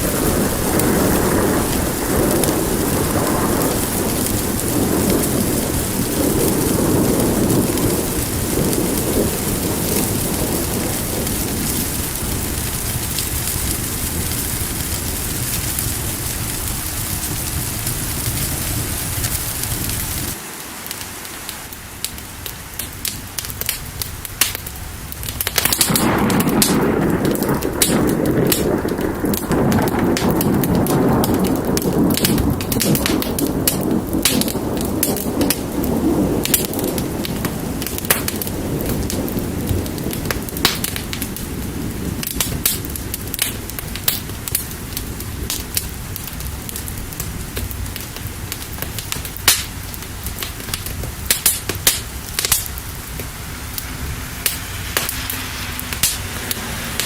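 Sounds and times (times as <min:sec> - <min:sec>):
low rumble of thunder: 0:00.0 - 0:20.4, 0:21.8 - 0:57.0
steady rain: 0:00.0 - 0:57.0
wood fire crackling: 0:00.0 - 0:57.0.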